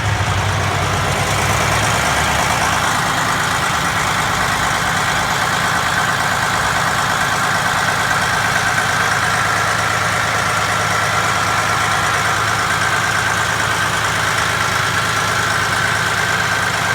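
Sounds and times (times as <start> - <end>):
truck diesel engine idling: 0.0 - 16.9.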